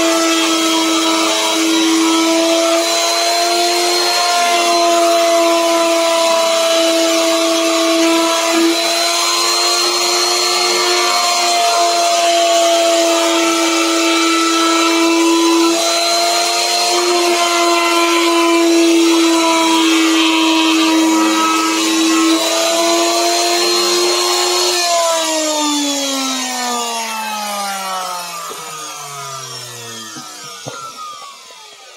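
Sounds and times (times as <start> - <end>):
electric router cutting wood: 0.0 - 31.9.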